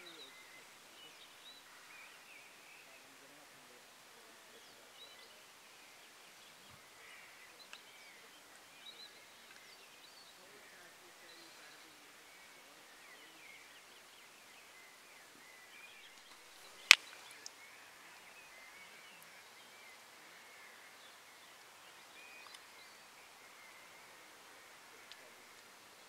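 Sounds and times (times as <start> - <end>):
distant birdsong: 0.0 - 26.0.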